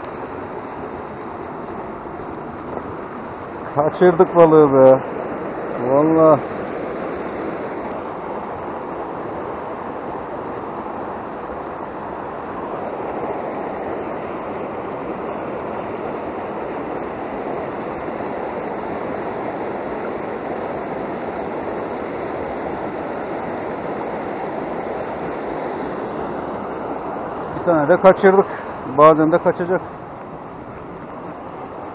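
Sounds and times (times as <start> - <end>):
river rushing over boulders: 0.0 - 31.9.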